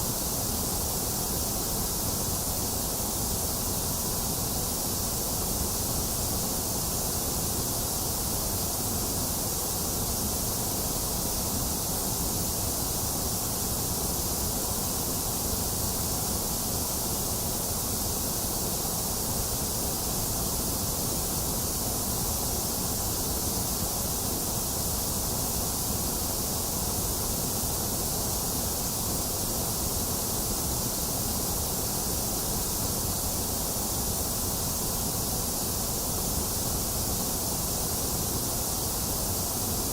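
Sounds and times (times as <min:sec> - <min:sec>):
falling rain hiss: 0:00.0 - 0:39.9.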